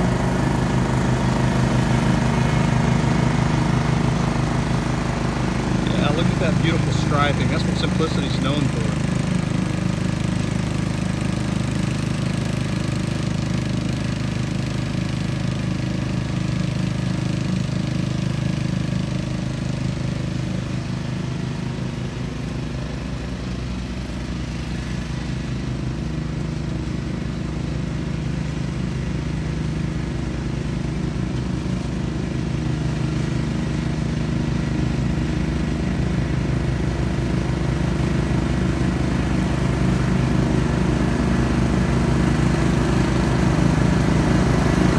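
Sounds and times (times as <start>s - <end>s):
riding mower engine running: 0.0s - 44.9s.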